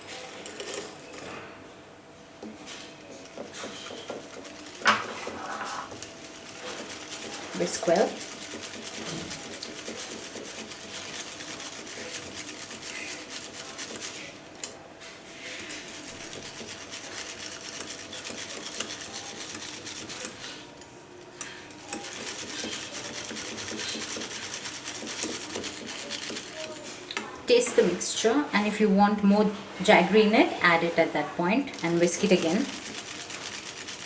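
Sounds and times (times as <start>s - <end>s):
whisk beating mixture in bowl: 2.4s - 20.6s, 21.4s - 28.5s, 29.5s - 34.0s.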